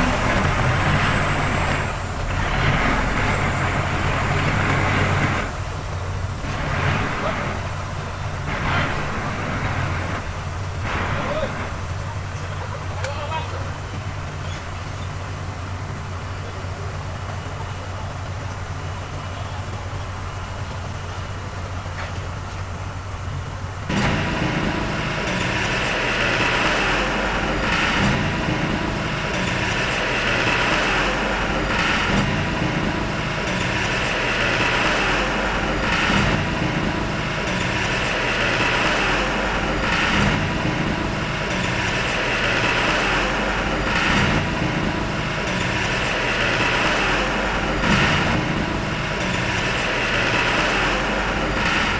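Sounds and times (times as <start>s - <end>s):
diesel engine idling: 0.0s - 51.9s
working machinery: 0.0s - 51.9s.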